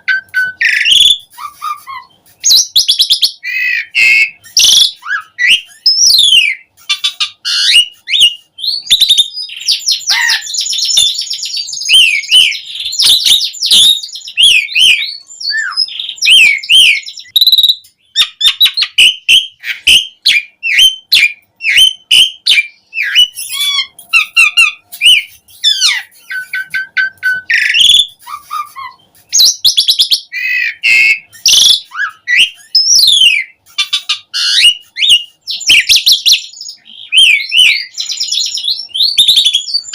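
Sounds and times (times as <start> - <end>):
starling singing varied whistles: 0.0 - 39.9.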